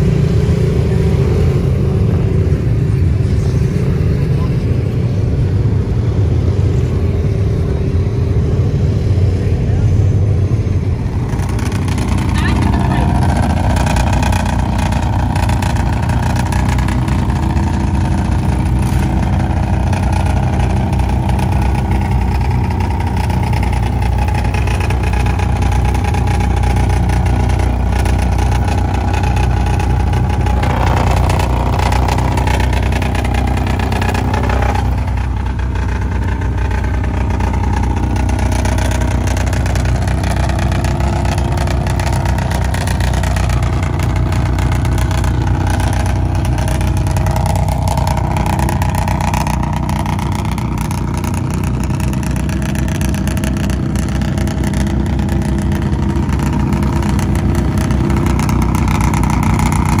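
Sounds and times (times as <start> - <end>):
truck engines revving: 0.0 - 60.0.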